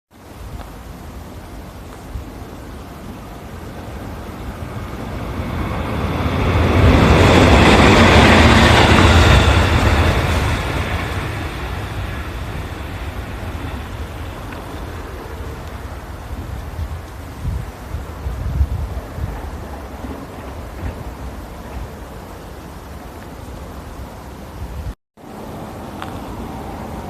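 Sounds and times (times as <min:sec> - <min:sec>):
train passing: 0:00.2 - 0:27.0.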